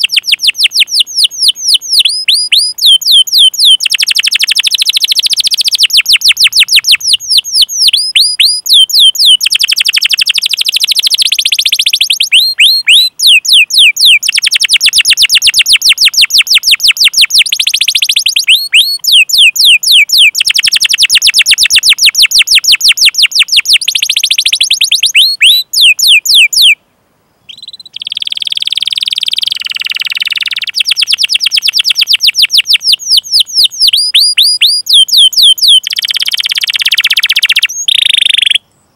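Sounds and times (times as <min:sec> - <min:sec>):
canary singing: 0:00.0 - 0:26.8, 0:27.5 - 0:38.6.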